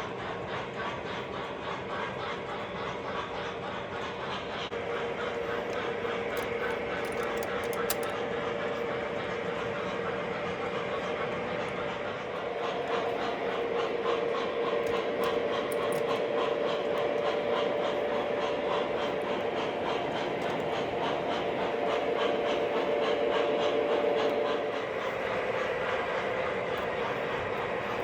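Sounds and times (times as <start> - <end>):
model train clicking on track: 0.0 - 28.0.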